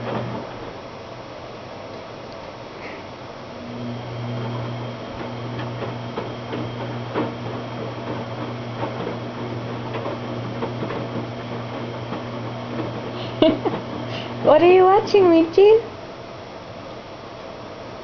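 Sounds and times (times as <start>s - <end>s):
washing machine motor humming: 0.0s - 18.0s.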